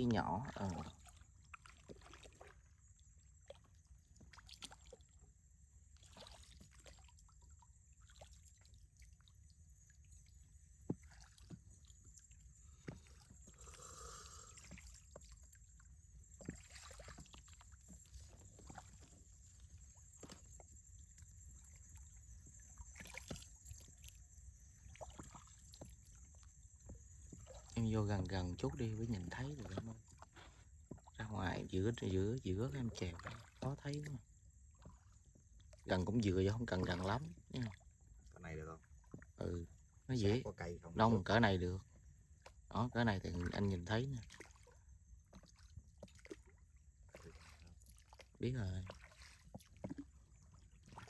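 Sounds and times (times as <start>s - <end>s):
water sloshing and trickling: 0.0s - 51.0s.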